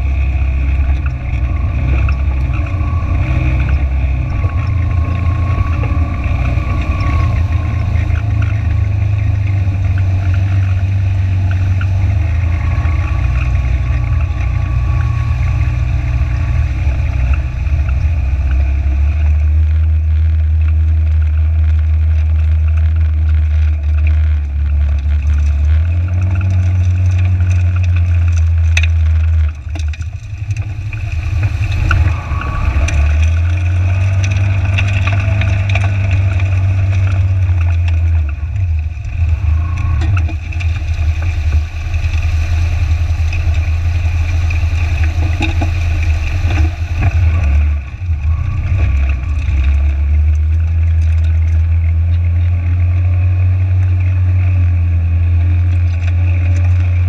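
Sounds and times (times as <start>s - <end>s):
vehicle engine running under load: 0.0s - 57.0s
water rushing and churning: 0.0s - 57.0s.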